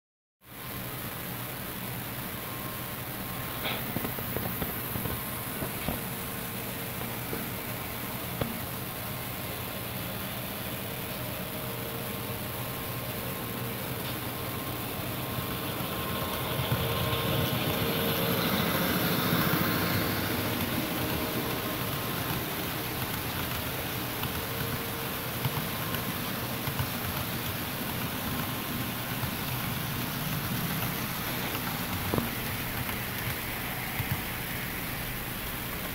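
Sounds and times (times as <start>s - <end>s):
model train rumbling: 0.5s - 35.9s.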